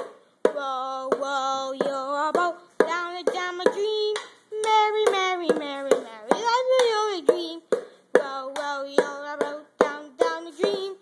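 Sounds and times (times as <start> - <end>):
person singing children's song: 0.0 - 11.0.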